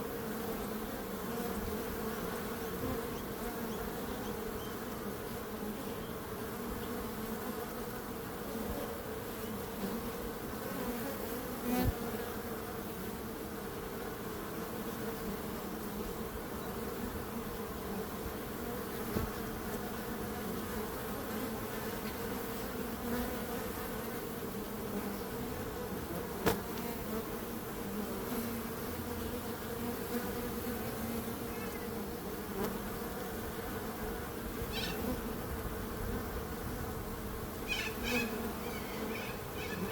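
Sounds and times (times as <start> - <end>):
bees buzzing: 0.0 - 39.9.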